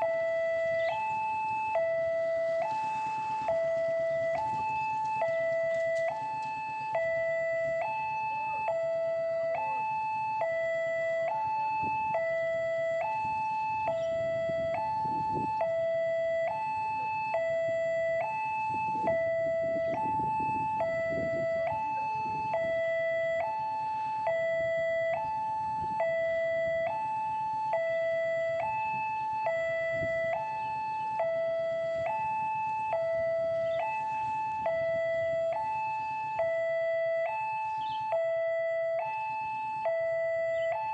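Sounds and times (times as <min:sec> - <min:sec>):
level crossing two-tone alarm: 0:00.0 - 0:40.9
low rumble of vehicles: 0:00.0 - 0:40.9.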